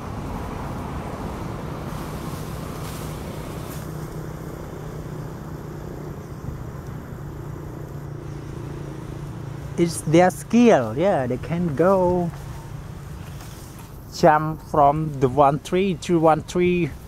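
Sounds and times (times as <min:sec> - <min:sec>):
low engine-like hum: 0:00.0 - 0:17.0
outdoor background noise: 0:00.0 - 0:17.0.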